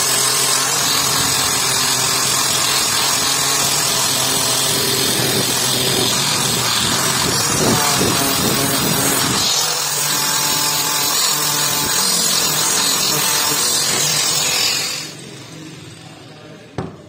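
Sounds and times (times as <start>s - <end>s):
power tool running under load: 0.0s - 16.4s.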